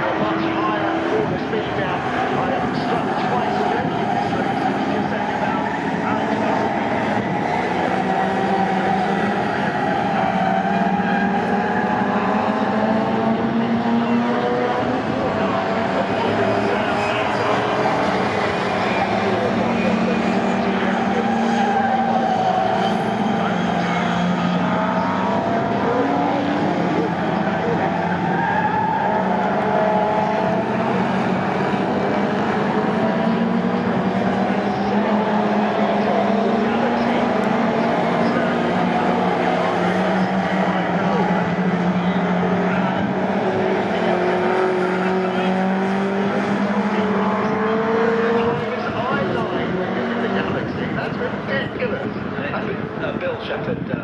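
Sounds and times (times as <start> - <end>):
racing car engines: 0.0 - 54.0.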